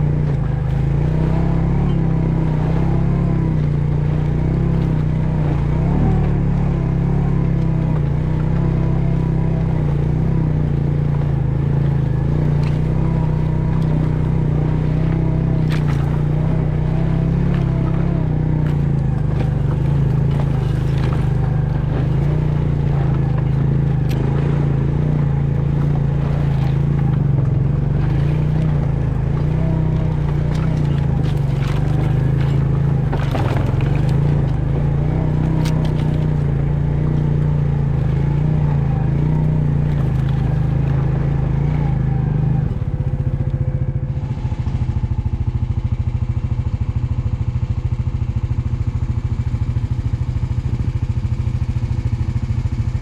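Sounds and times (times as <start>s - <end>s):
engine droning: 0.0s - 53.0s.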